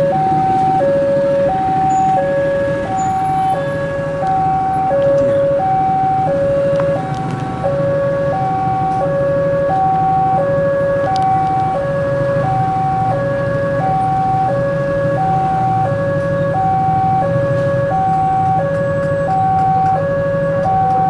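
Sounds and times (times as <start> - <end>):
level crossing two-tone alarm: 0.0 - 21.0.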